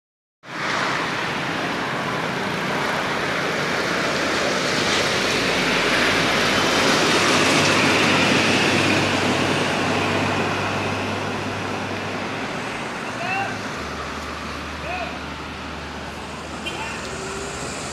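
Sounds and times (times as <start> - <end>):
road traffic noise: 0.4 - 17.9.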